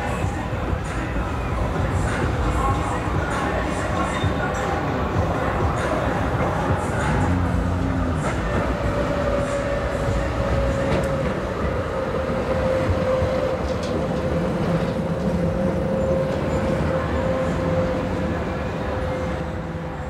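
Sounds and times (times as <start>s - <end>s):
tram rumbling on rails: 0.0s - 20.0s
tram whine: 0.0s - 20.0s.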